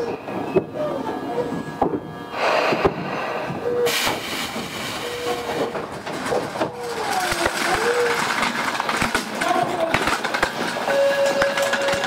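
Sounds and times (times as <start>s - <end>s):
train rattling and knocking: 0.0s - 12.0s.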